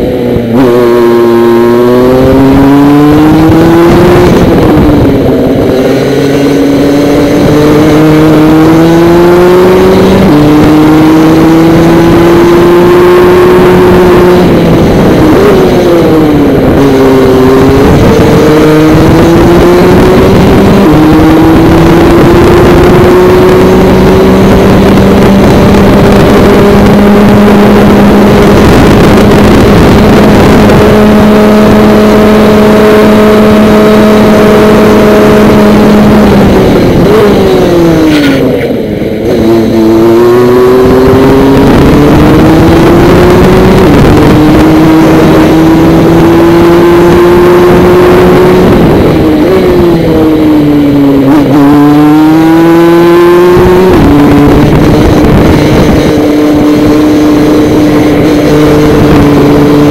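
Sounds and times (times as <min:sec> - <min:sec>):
two-stroke kart engine revving: 0:00.0 - 0:59.9.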